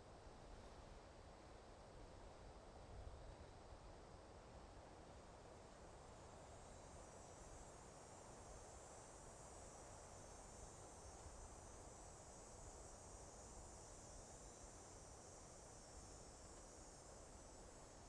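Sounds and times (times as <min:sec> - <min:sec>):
soft wind in forest: 0:00.0 - 0:18.0.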